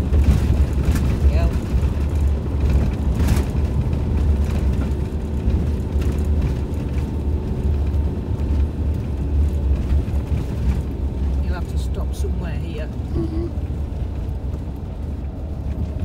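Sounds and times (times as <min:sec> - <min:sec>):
engine and tyre rumble: 0:00.0 - 0:16.0.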